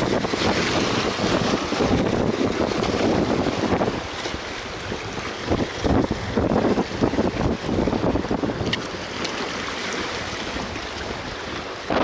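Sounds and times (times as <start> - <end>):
wind buffeting microphone: 0.0 - 9.5, 10.4 - 12.0
waves splashing against rocks: 0.0 - 12.0.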